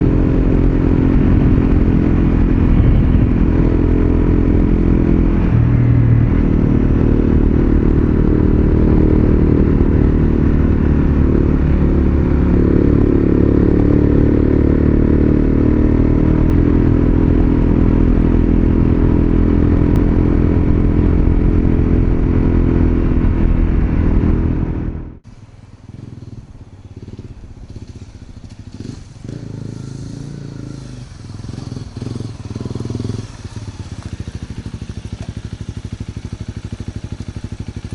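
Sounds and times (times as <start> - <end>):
motorcycle engine running: 0.0 - 37.9
outdoor background noise: 0.0 - 37.9.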